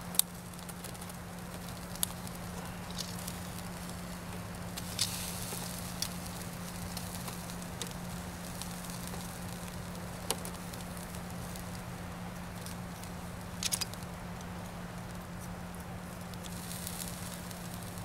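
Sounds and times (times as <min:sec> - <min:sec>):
sharp fire pops: 0:00.0 - 0:18.0
steaks sizzling on grill: 0:00.1 - 0:13.9, 0:15.9 - 0:18.0.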